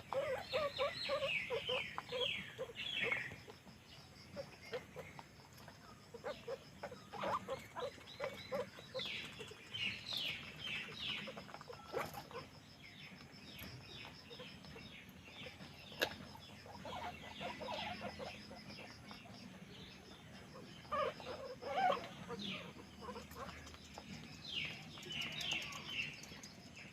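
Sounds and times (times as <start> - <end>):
guinea pigs squeaking: 0.0 - 26.9.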